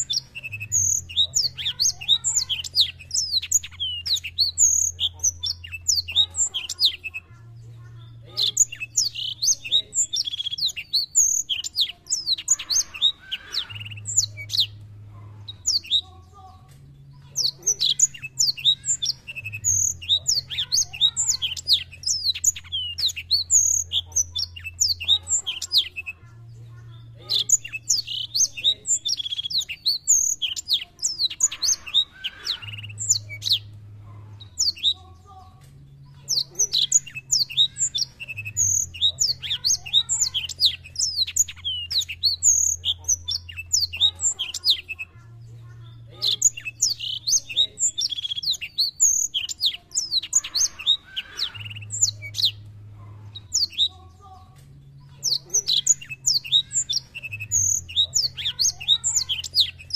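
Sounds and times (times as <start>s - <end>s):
canary twittering song: 0.0s - 59.9s.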